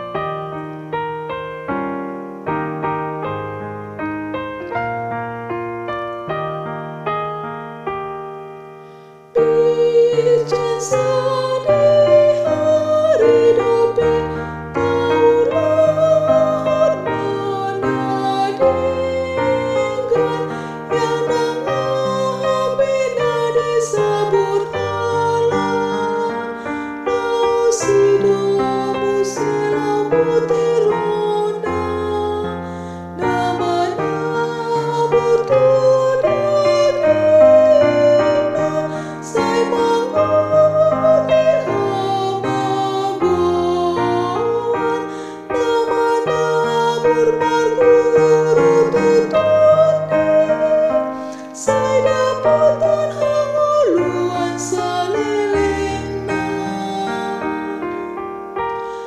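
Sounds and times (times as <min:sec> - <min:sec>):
held keyboard melody line: 0:00.0 - 0:59.0
piano chords: 0:00.0 - 0:59.0.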